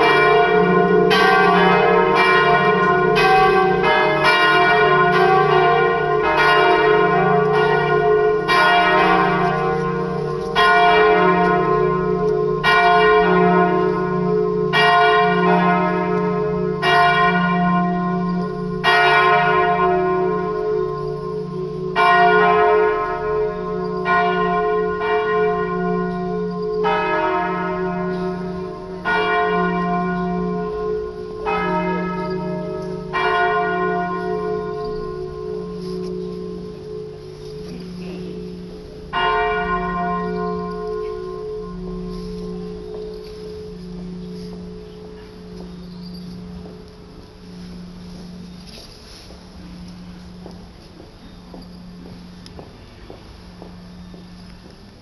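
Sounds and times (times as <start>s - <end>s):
church bells ringing: 0.0s - 55.0s
low hum of bells: 0.0s - 55.0s.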